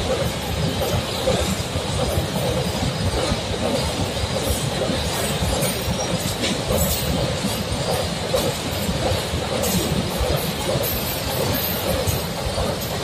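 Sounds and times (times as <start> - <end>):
freight wagon wheels on rails: 0.0 - 13.0.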